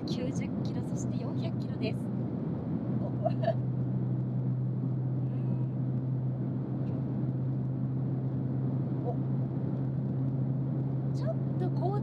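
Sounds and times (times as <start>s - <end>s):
constant hum: 0.0s - 12.0s
train cabin low rumble: 0.0s - 12.0s.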